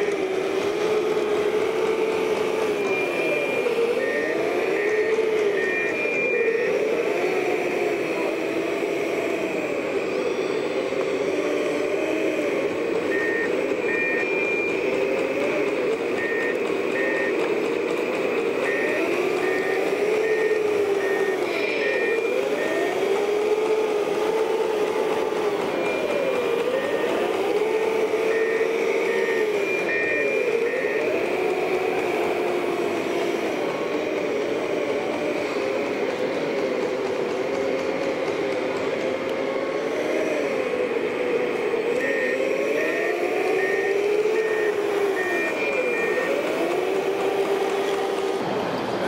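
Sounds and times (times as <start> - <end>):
high reversing beeps: 0.0 - 38.4, 39.2 - 48.4
steady mechanical hum: 0.0 - 49.0
toy construction machine motors: 0.0 - 49.0.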